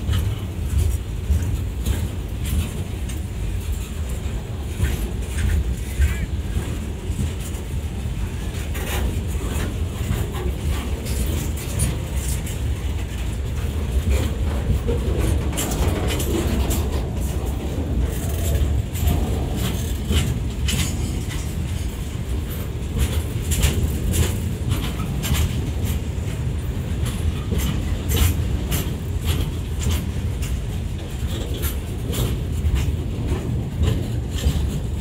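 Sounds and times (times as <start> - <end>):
freight wagons rumbling on rail: 0.0 - 35.0
wheels and couplings clanking: 0.0 - 35.0.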